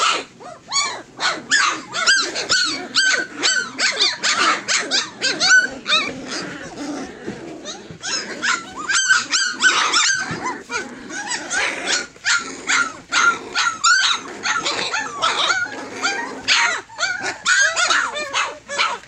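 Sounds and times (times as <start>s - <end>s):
puppies yipping and squealing: 0.0s - 19.0s.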